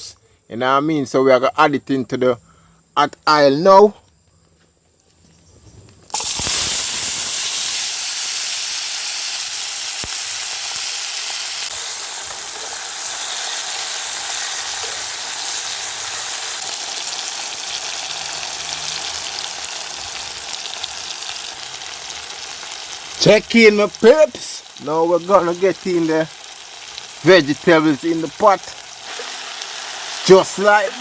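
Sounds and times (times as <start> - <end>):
vegetables sizzling in hot oil: 6.1 - 31.0.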